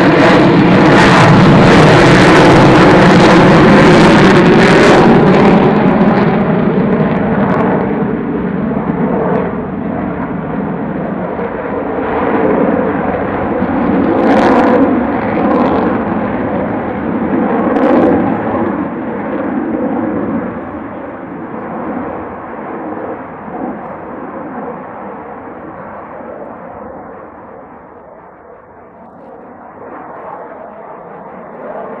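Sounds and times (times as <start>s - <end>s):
jet engines roaring in flypast: 0.0s - 32.0s.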